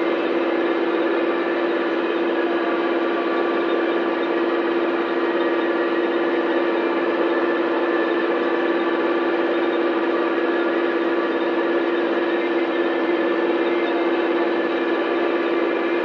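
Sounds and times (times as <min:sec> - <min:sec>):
tractor and baler humming: 0:00.0 - 0:16.0.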